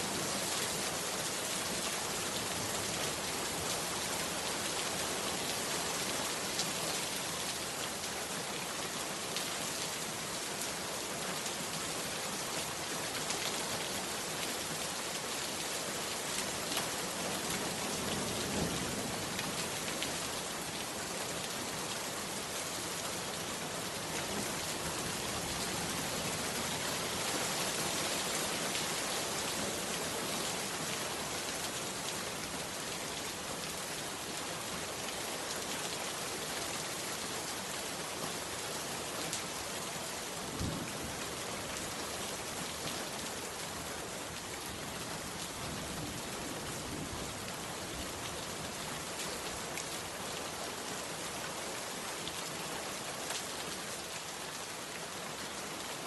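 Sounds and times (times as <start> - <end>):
heavy rain on a hut: 0.0 - 56.0.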